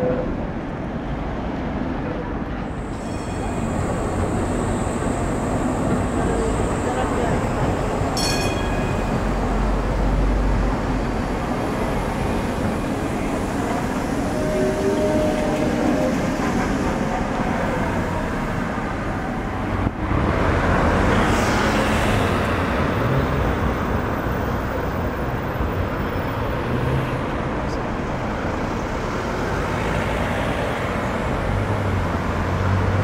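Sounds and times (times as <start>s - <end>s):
city traffic noise: 0.0s - 33.0s
tram pulling away: 0.0s - 33.0s
tram rolling in on rails: 0.0s - 33.0s.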